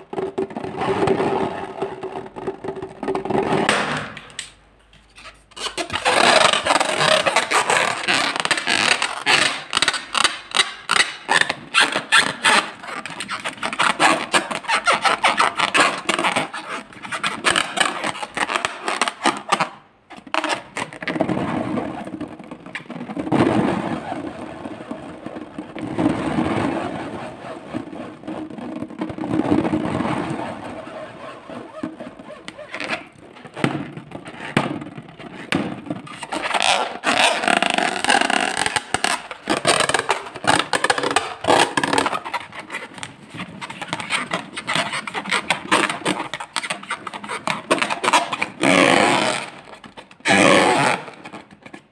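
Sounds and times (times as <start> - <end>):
fingers rubbing balloon squeaks: 0.0 - 3.9, 5.1 - 51.9.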